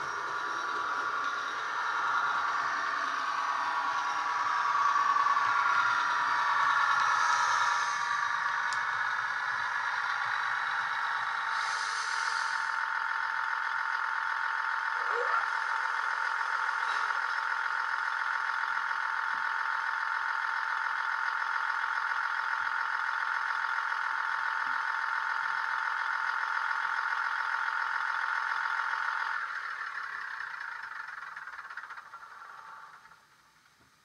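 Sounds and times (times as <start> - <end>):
diesel train engine idling: 0.0 - 34.0.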